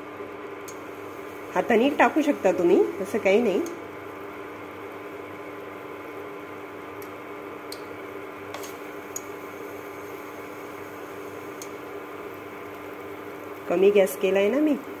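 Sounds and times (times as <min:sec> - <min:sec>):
batter sizzling in hot oil: 0:00.7 - 0:06.9, 0:08.0 - 0:15.0.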